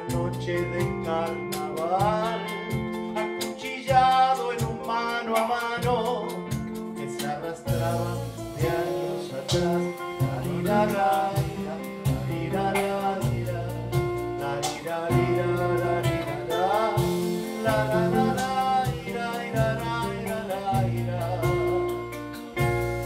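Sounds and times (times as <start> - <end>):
wordless singing: 0.0 - 22.6
acoustic guitar: 0.0 - 23.0
hand percussion beat: 0.0 - 23.0.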